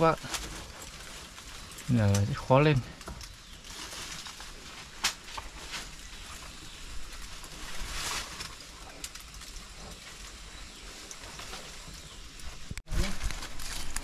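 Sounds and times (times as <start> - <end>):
rustling and scraping on rock: 0.0 - 14.0.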